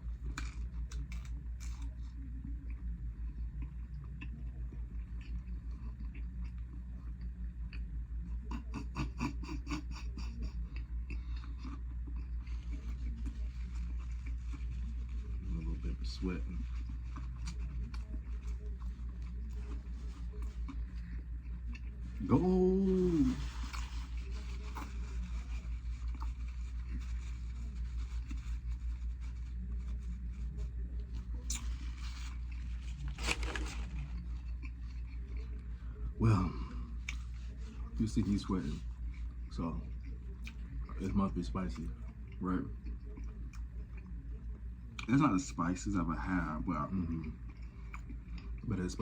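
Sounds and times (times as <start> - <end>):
person chewing crunchy food: 0.0 - 41.1, 47.0 - 48.7
steady low hum: 0.0 - 49.0.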